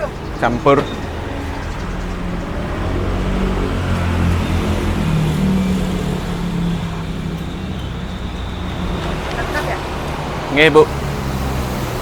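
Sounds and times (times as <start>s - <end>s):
hum of passing traffic: 0.0s - 12.0s
vehicle engine running: 0.0s - 12.0s.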